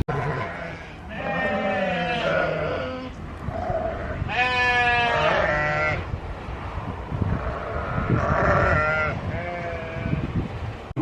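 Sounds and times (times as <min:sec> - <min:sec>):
animals bleating: 0:00.0 - 0:06.0, 0:07.4 - 0:10.2.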